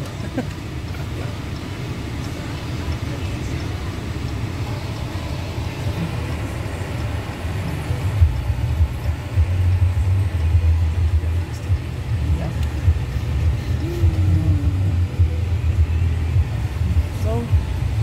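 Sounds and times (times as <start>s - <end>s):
car rumble from inside cabin: 0.0s - 18.0s.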